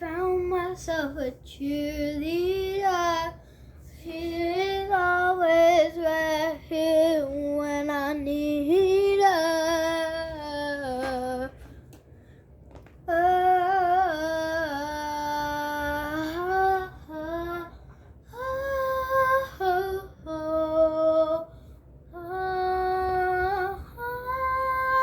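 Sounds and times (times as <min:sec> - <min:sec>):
girl singing unaccompanied: 0:00.0 - 0:11.6, 0:13.0 - 0:25.0.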